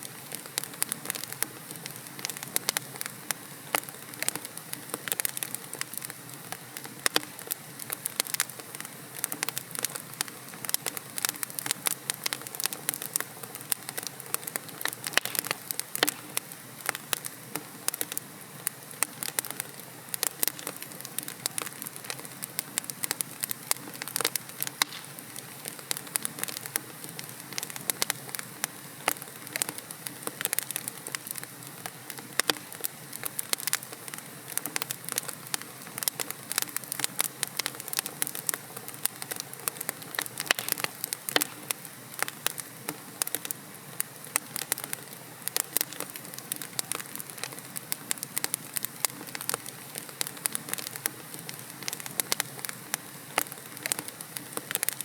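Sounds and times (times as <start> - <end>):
logs burning in fireplace: 0.0 - 55.0.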